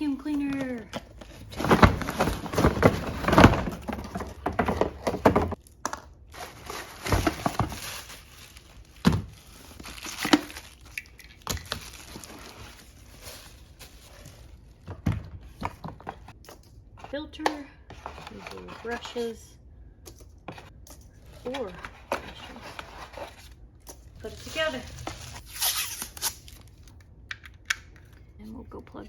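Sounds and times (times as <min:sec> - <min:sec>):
cardboard and plastic rustling: 0:00.0 - 0:16.4, 0:17.9 - 0:19.4, 0:20.1 - 0:27.0.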